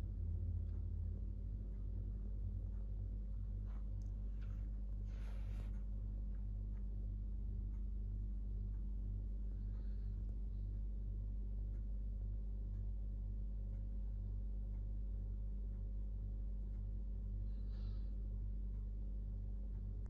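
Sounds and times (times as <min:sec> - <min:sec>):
low hum with pulsing throb: 0:00.0 - 0:20.0.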